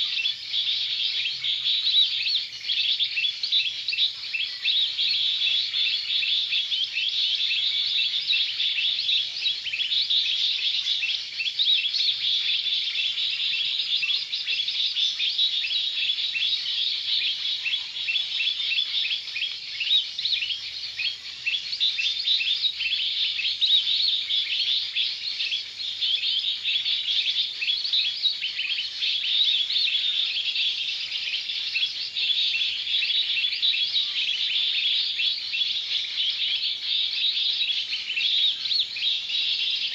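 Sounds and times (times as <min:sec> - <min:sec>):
small birds twittering: 0:00.0 - 0:39.9.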